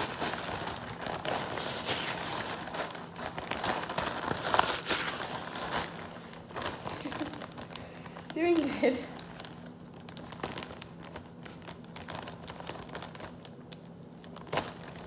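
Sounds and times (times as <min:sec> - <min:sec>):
plastic bag of ice crinkling: 0:00.0 - 0:15.0.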